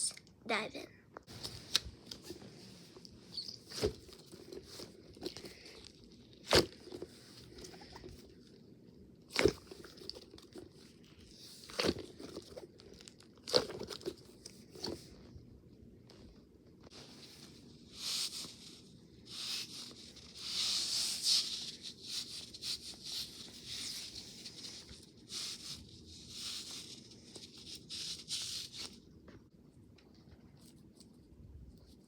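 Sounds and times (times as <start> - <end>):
soft rustling: 1.2 - 8.6, 9.4 - 32.0.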